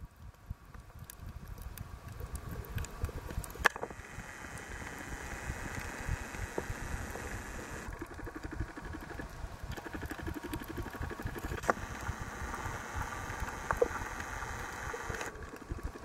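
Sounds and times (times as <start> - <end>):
steady hiss: 0.0 - 16.0
underwater rumble of moving water: 0.0 - 16.0.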